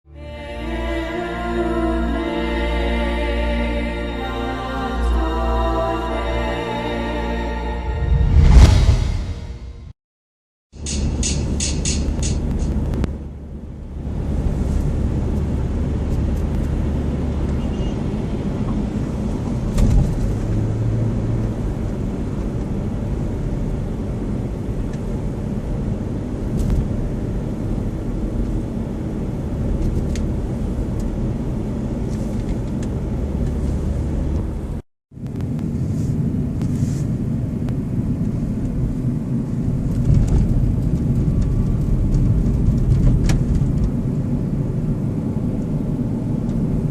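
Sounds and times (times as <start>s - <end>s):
low outdoor rumble: 3.0s - 9.9s, 12.2s - 46.9s.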